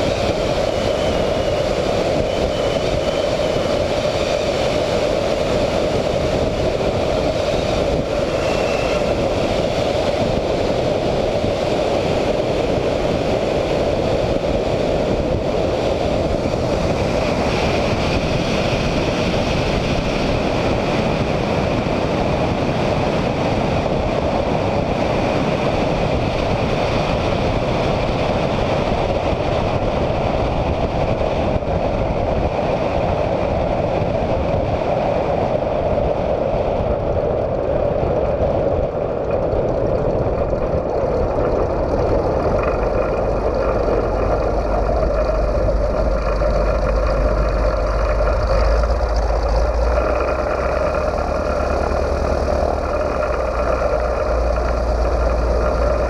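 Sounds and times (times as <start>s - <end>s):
radial engine and propeller: 0.0s - 56.0s
wind rushing: 0.0s - 56.0s.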